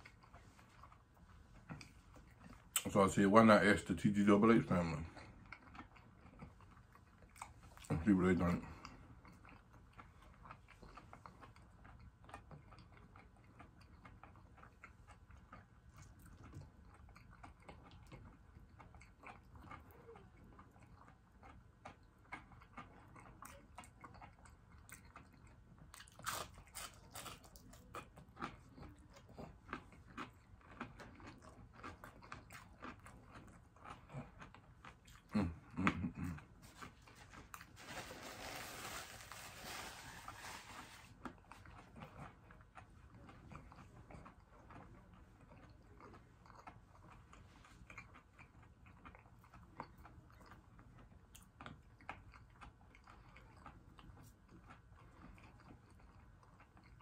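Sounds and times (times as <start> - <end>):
chewing crispy fried food: 0.0 - 57.0.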